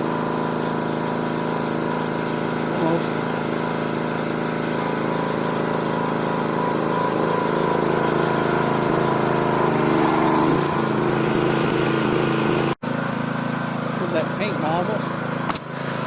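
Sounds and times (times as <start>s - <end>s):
pressure washer engine running: 0.0s - 16.0s
water spraying through nozzle: 0.0s - 16.0s.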